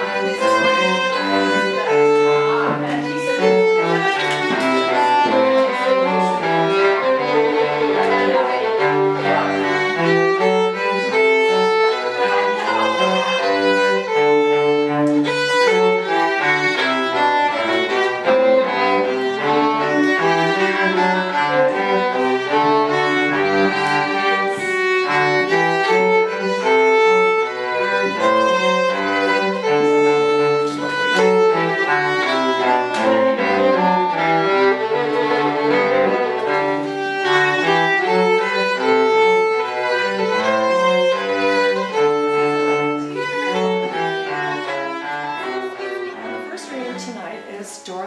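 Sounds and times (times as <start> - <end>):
cello line: 0.0 - 48.0
violin melody: 0.0 - 48.0.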